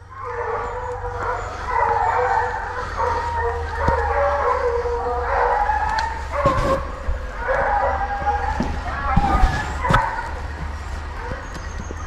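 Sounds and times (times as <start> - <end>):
hounds baying and howling: 0.0 - 12.0.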